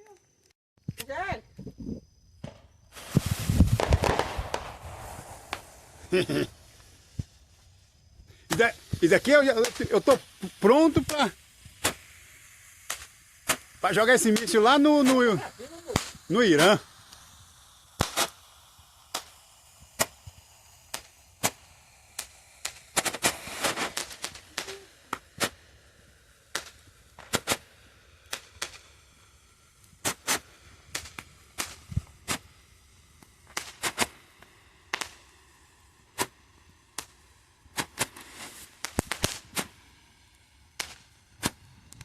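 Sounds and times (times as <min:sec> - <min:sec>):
firecrackers popping: 0:00.0 - 0:42.0.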